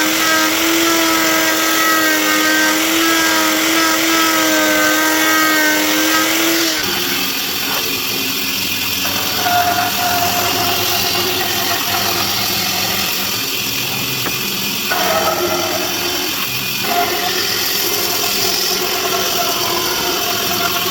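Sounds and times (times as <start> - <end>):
electric power tool running: 0.0 - 20.9.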